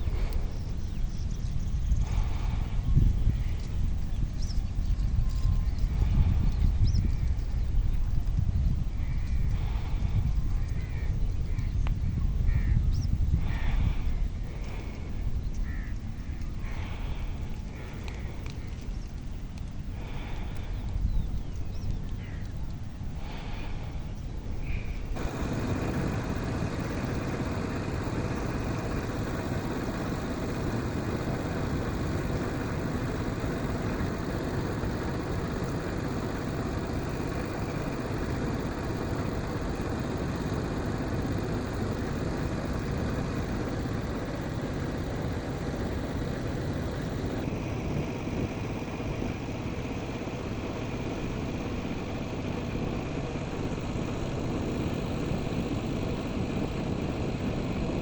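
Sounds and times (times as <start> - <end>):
engine running: 0.0 - 12.7, 13.3 - 58.0.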